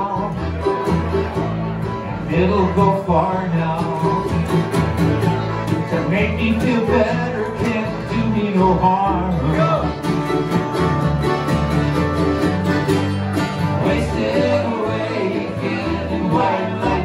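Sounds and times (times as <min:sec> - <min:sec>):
accordion: 0:00.0 - 0:17.0
acoustic guitar: 0:00.0 - 0:17.0
banjo: 0:00.0 - 0:17.0
mandolin: 0:00.0 - 0:17.0
upright bass: 0:00.0 - 0:17.0.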